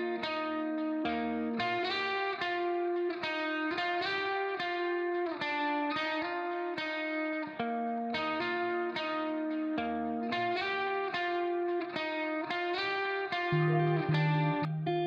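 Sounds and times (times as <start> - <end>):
distorted guitar melody: 0.0 - 15.0.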